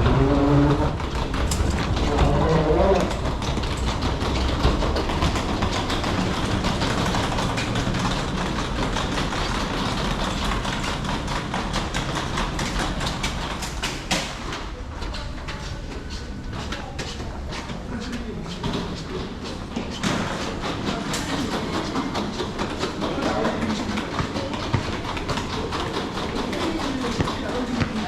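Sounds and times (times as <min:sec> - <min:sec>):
train rumbling: 0:00.0 - 0:28.0
wheels clicking on track: 0:00.0 - 0:28.0.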